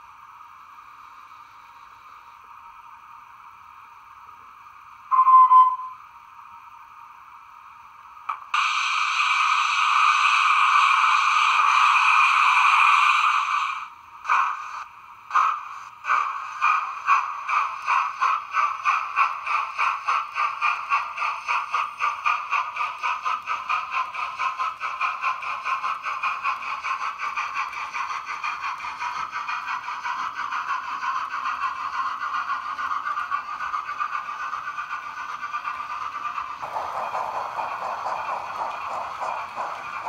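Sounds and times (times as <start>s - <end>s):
model steam locomotive chuffing: 7.2s - 40.0s.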